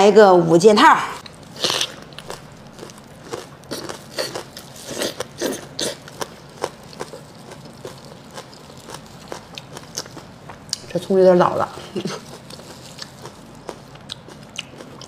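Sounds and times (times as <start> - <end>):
chewing with wet smacks: 1.2 - 10.9, 12.0 - 15.0
crunchy chewing clicks: 1.2 - 10.9, 12.0 - 15.0.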